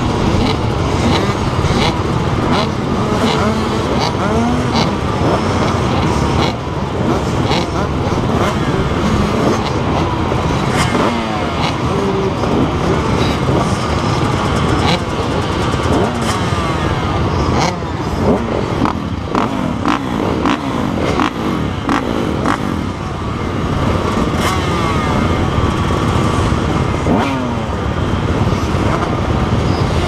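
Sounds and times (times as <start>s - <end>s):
motocross bikes revving: 0.0s - 30.0s.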